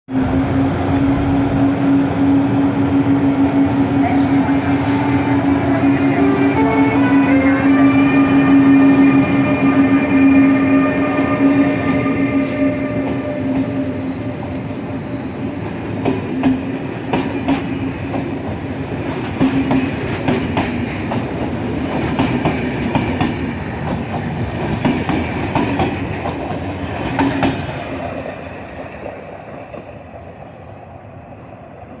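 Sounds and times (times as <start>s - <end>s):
electric locomotive whine: 0.1s - 32.0s.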